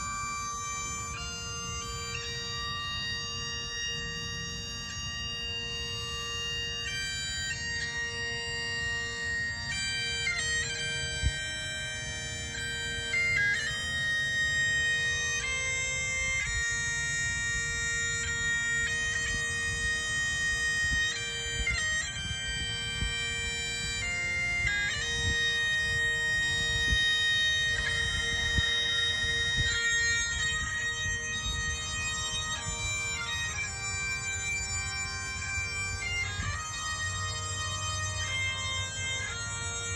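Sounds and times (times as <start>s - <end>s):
bagpipes playing slow tune: 0.0s - 39.9s.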